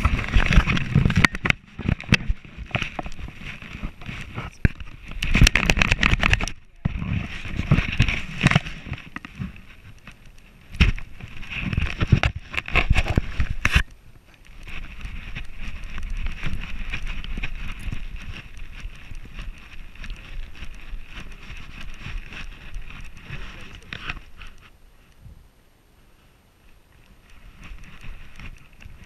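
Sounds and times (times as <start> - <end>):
wind on microphone: 0.0 - 25.6.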